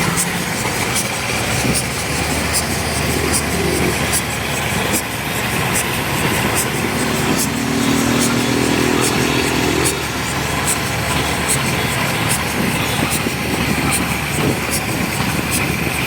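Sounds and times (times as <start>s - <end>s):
steam locomotive rumble and hiss: 0.0s - 16.0s.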